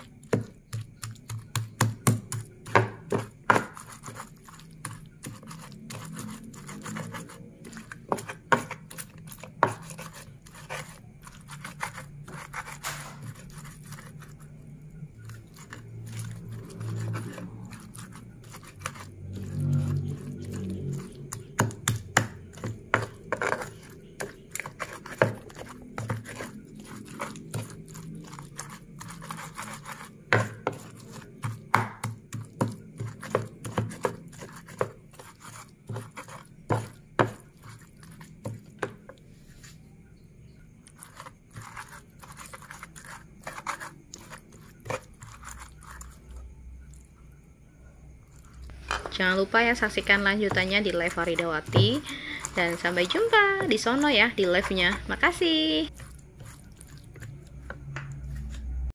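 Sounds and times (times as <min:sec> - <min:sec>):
pestle knocking and scraping mortar: 0:00.0 - 0:14.4, 0:15.2 - 0:39.1, 0:40.9 - 0:46.1, 0:49.8 - 0:58.7
squishing of crushed mash: 0:00.0 - 0:39.8, 0:40.7 - 0:58.9.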